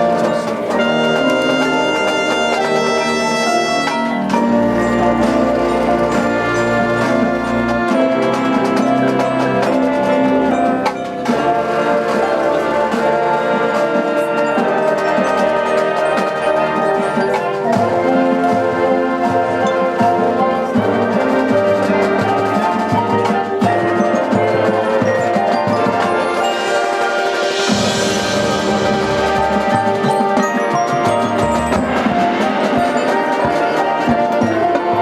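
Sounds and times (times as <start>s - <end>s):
brass and wind chords: 0.0s - 35.0s
drums: 0.0s - 35.0s
mallet percussion: 0.0s - 35.0s.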